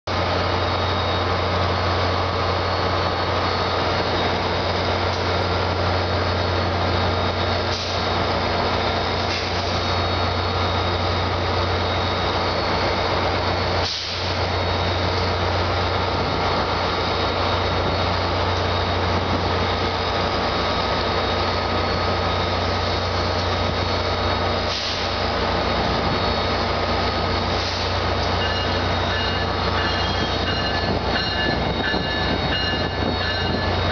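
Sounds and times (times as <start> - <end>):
diesel locomotives idling: 0.1 - 33.9.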